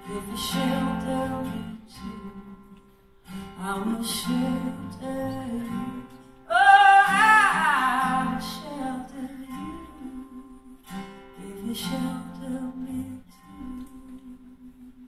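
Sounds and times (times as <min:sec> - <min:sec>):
acoustic guitar and bass playing: 0:00.0 - 0:15.0.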